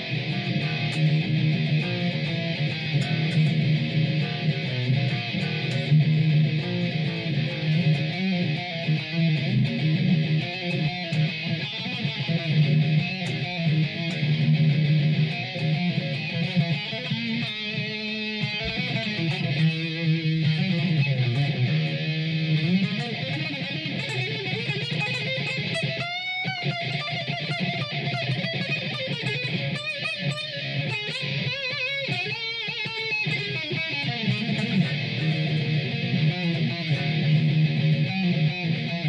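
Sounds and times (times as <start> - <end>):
electric guitar lead line: 0.0 - 39.0.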